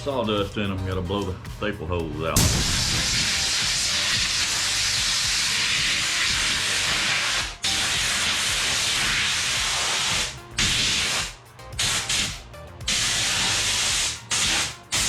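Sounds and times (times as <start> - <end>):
compressed air blow gun hissing: 2.3 - 15.0.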